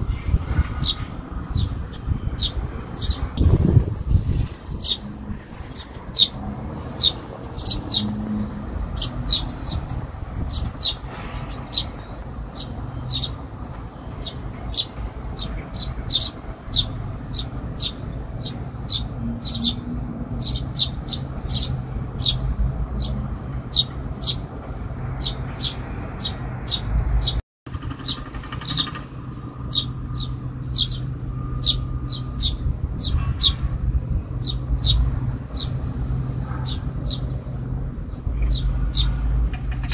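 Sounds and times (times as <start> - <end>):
low hum of city traffic: 0.0 - 39.9
sparrows chirping: 0.0 - 39.9.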